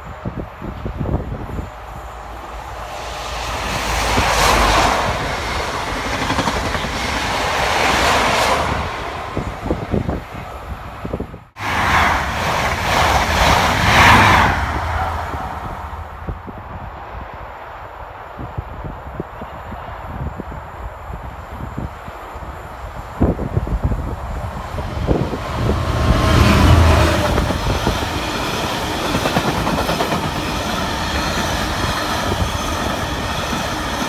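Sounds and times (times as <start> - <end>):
diesel trains passing: 0.0 - 34.0.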